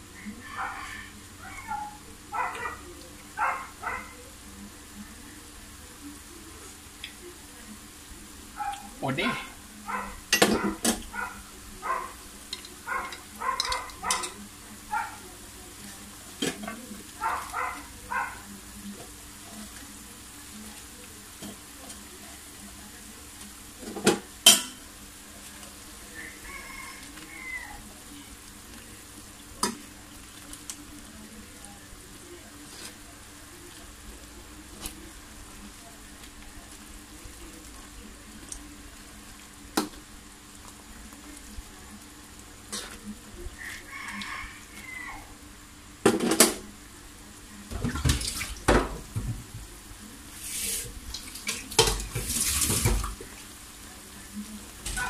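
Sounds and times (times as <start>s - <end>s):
gravy simmering and sizzling: 0.0s - 55.0s.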